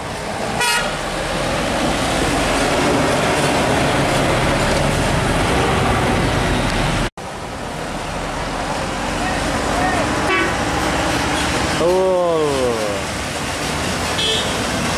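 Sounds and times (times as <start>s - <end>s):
road traffic: 0.0s - 14.9s
truck passing close by: 0.0s - 14.9s.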